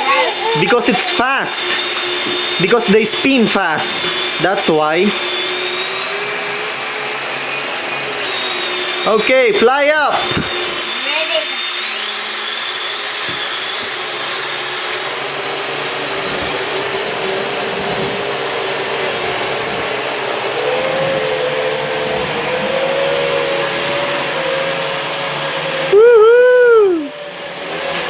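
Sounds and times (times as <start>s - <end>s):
toy quadcopter propellers whirring: 0.0s - 28.0s.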